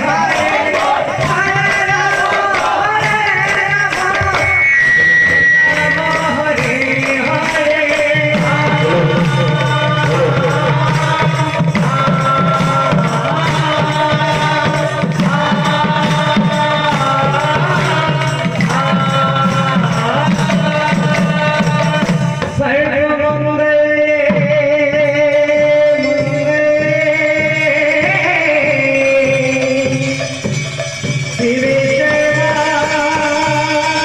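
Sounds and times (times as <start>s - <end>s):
singing over barrel drums: 0.0s - 34.0s.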